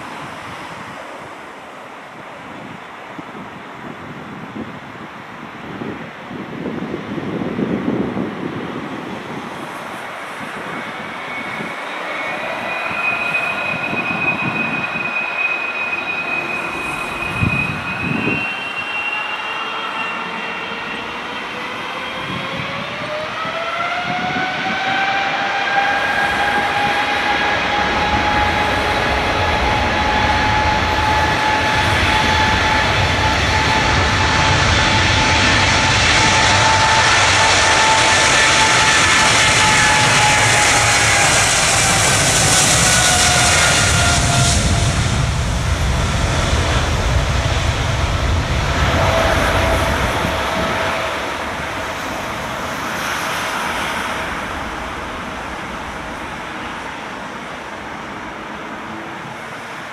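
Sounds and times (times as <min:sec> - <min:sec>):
deep rumble of jet: 0:00.0 - 0:18.9, 0:20.2 - 0:58.0
jet engines spooling up: 0:09.2 - 0:57.9.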